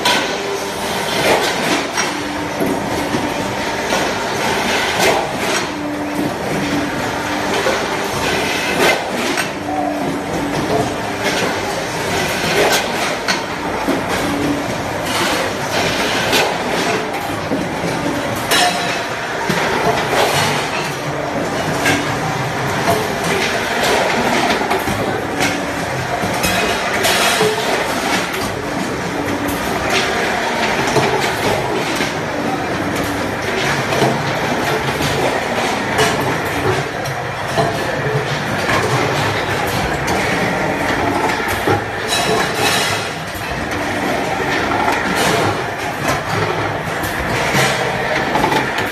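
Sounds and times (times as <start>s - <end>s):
machinery din of conveyor and press: 0.0s - 48.9s.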